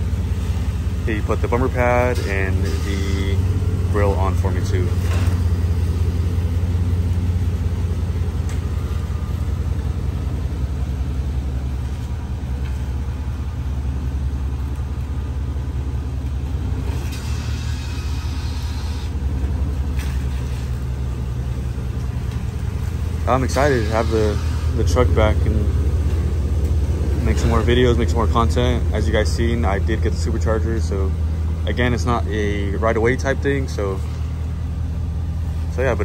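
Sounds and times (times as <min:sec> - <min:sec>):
pickup truck engine idling: 0:00.0 - 0:36.0.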